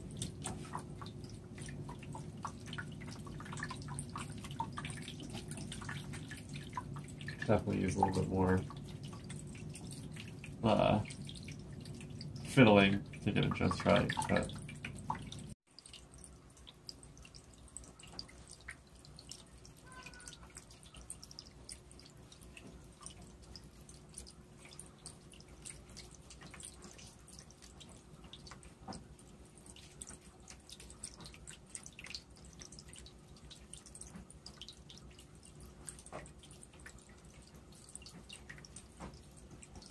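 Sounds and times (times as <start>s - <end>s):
faint steady hum: 0.0s - 39.9s
water trickling and dripping: 0.0s - 39.9s.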